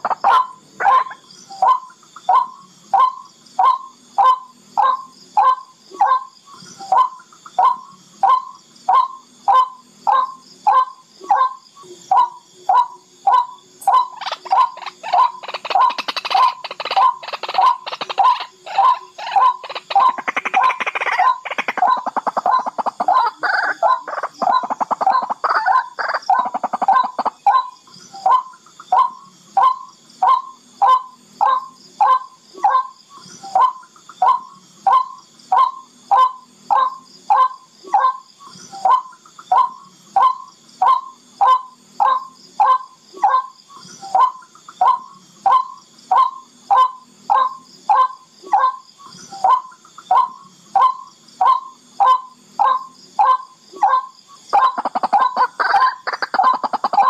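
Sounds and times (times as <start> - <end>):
bird chattering calls: 0.0 - 57.0.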